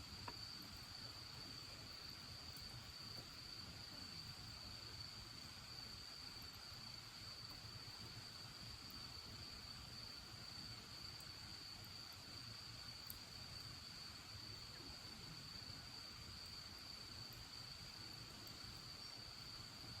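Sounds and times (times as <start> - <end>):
faint cricket trilling: 0.0 - 20.0.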